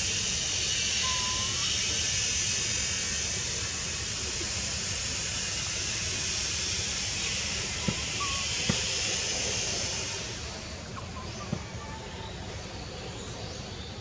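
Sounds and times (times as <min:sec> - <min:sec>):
high hiss: 0:00.0 - 0:14.0.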